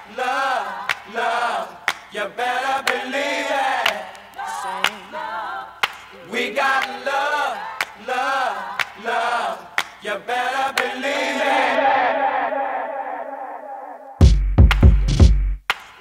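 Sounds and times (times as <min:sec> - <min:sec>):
group of voices chanting: 0:00.0 - 0:14.2.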